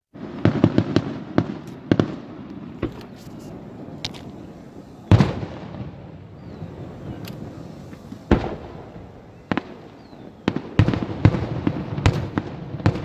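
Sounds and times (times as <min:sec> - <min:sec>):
fireworks bangs: 0:00.1 - 0:13.0.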